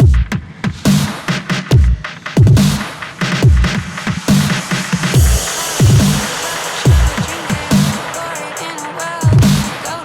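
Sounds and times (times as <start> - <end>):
dubstep music: 0.8 - 10.0.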